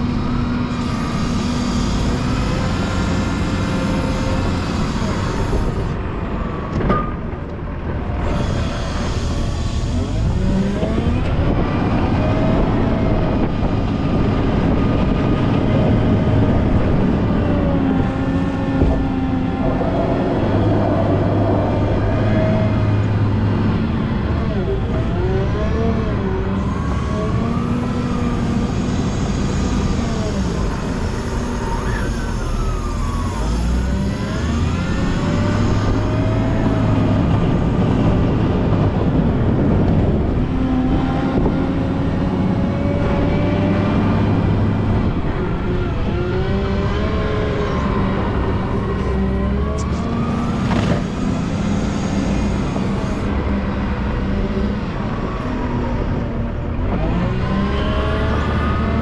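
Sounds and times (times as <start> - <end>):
diesel engine running under load: 0.0 - 59.0
engine whine changing pitch: 0.0 - 59.0.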